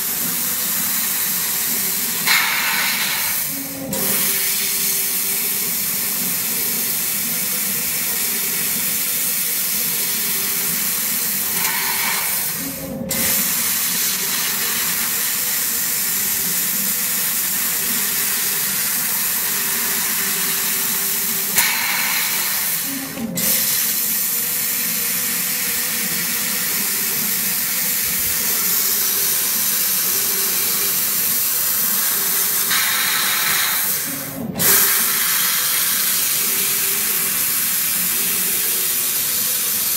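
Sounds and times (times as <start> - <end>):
gas hissing from cutting nozzle: 0.0 - 39.9.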